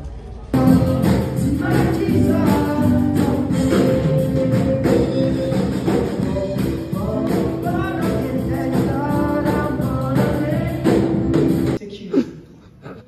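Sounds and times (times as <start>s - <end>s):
gospel band and singing: 0.5s - 11.8s.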